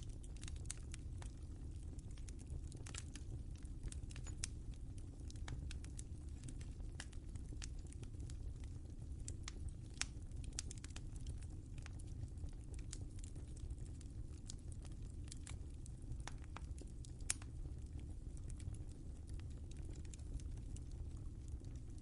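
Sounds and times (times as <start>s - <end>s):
fire crackling pops and snaps: 0.0s - 22.0s
rumble of fire flames: 0.0s - 22.0s.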